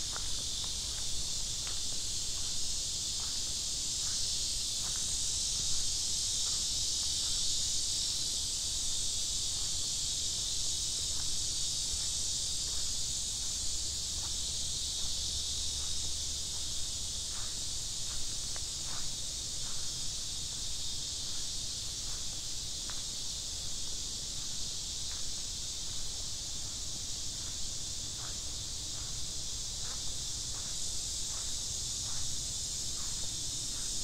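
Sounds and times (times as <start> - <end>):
faint footsteps on path: 0.0 - 34.0
insects buzzing chorus: 0.0 - 34.0.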